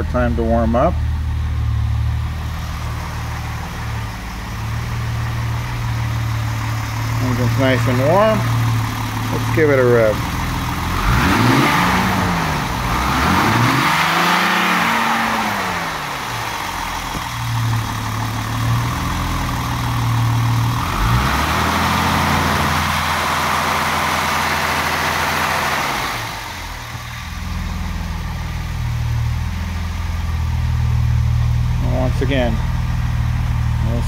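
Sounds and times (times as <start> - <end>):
car engine revving and idling: 0.0 - 34.0.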